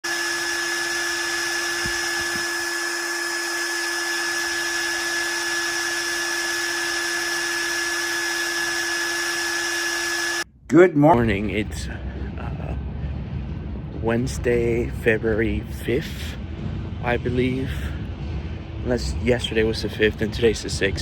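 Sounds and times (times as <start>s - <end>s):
steady drone: 0.0s - 21.0s.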